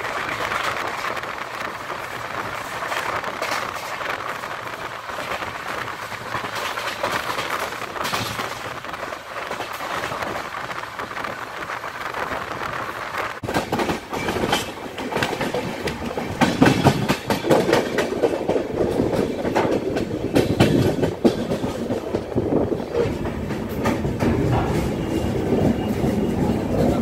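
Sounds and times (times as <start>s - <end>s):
train wheels clattering over rail joints: 0.0s - 27.0s.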